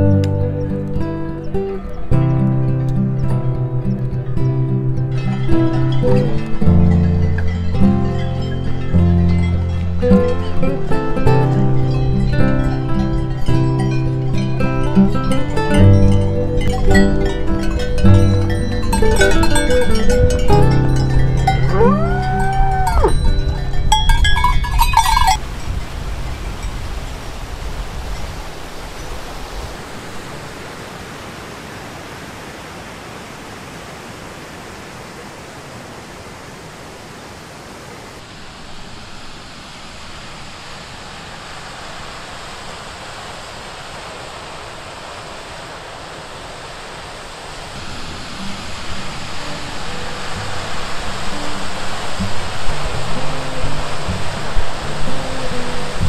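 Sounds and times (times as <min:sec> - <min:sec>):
stream and waterfall rushing: 0:00.0 - 0:56.0.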